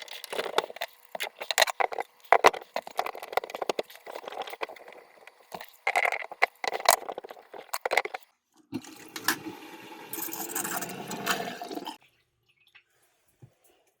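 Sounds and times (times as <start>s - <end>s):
water running in sink: 0.0s - 13.1s.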